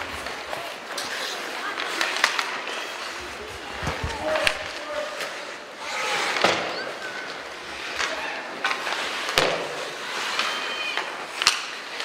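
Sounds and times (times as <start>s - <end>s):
hockey sticks and puck clacking: 0.0s - 12.0s
skate blades scraping on ice: 0.0s - 12.0s.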